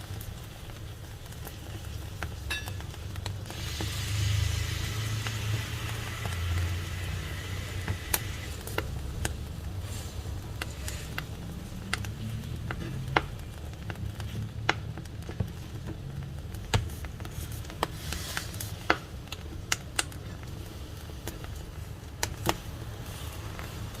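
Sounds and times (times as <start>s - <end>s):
burning wood crackling and popping: 0.0s - 24.0s
low rumble of flames: 0.0s - 24.0s.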